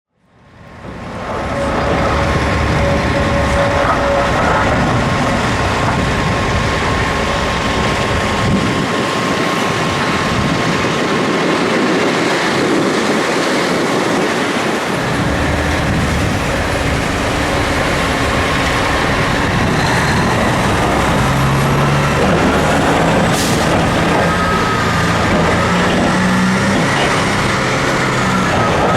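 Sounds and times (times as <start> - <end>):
heavy diesel machinery running: 0.2 - 28.9
rising engine tones: 0.4 - 28.9.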